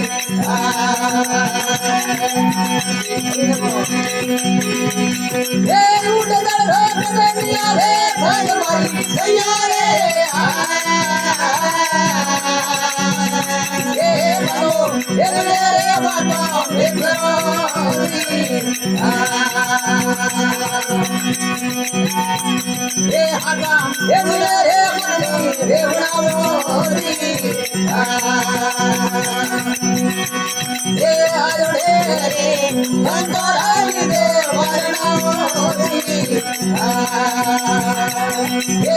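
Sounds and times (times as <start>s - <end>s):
rattling percussion: 0.0s - 38.9s.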